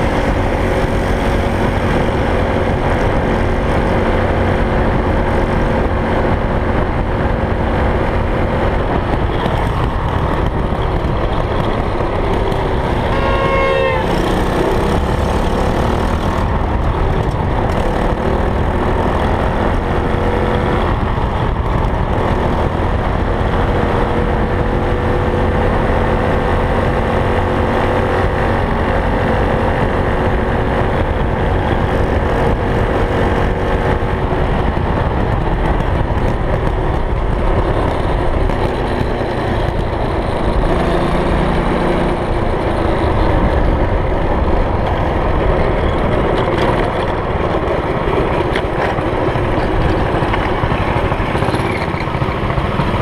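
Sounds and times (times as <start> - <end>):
steady low rumble: 0.0 - 27.4, 28.0 - 53.0.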